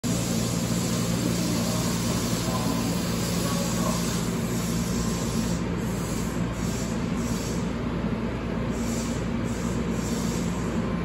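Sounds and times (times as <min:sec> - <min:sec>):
subway train humming and hissing: 0:00.0 - 0:11.0.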